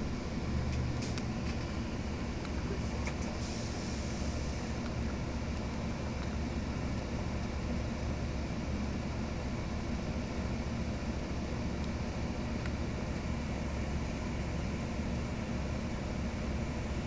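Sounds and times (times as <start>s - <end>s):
bus diesel engine humming: 0.0s - 17.0s.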